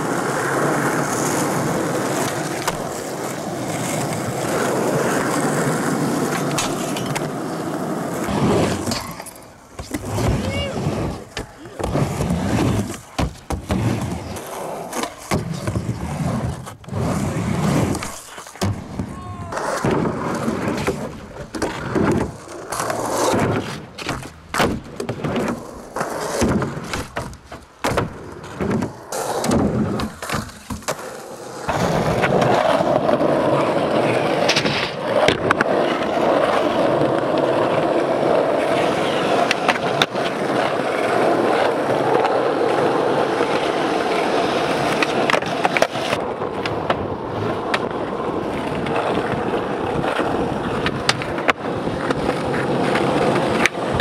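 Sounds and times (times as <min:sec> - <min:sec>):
skateboard popping and landing clacks: 0:00.0 - 0:54.0
skateboard wheels rolling on asphalt: 0:00.0 - 0:54.0.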